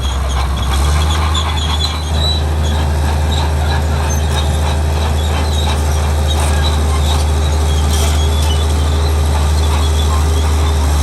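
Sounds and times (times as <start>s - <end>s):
bulldozer diesel engine running: 0.0s - 11.0s
metallic squeaks from steel tracks: 0.0s - 11.0s.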